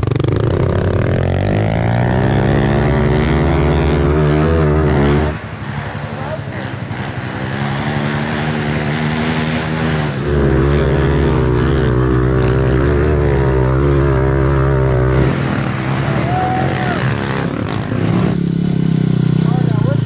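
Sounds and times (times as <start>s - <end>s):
pit bike engines revving: 0.0s - 20.0s.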